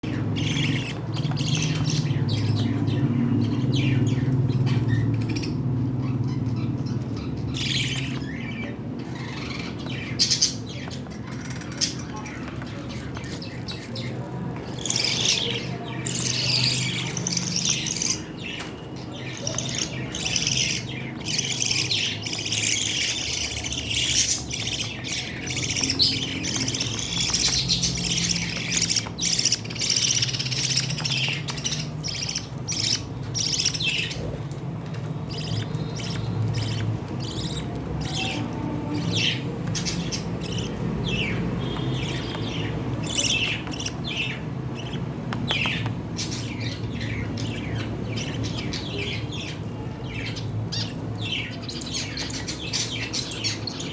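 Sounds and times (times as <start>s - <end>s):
lovebirds chirping and squawking: 0.0s - 53.9s.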